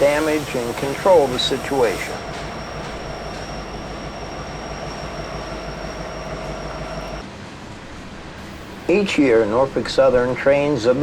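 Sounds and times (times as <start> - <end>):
high whine of wheels on rails: 0.0 - 10.3
train rail rumble: 0.0 - 11.0.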